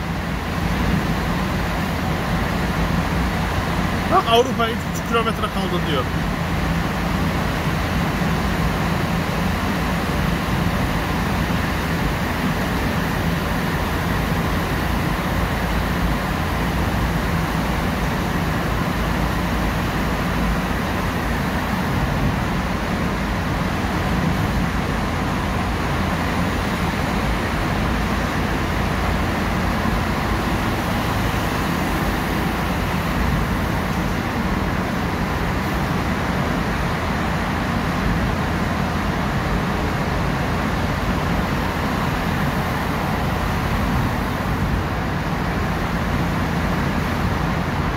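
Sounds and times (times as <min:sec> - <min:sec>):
car road noise in tunnel: 0:00.0 - 0:47.9.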